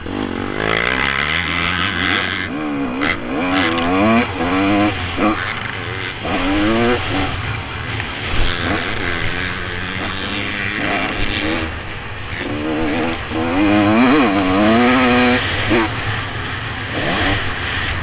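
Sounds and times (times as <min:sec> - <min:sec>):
motocross bike engine revving: 0:00.0 - 0:18.0
track noise: 0:00.0 - 0:18.0.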